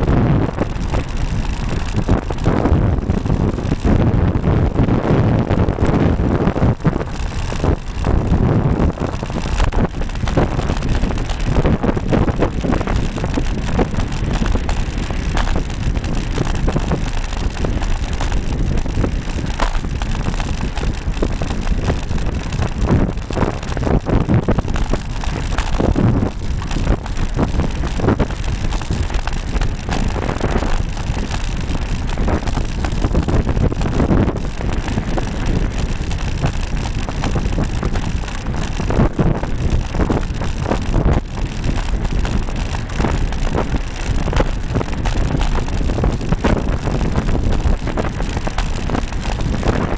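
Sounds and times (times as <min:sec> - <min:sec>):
bike knocks and rattles: 0:00.0 - 0:49.9
wind rushing over microphone: 0:00.0 - 0:49.9.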